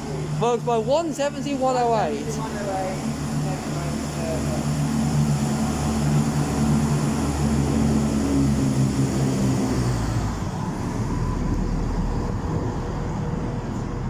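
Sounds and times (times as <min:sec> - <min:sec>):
diesel train pulling away: 0:00.0 - 0:14.0.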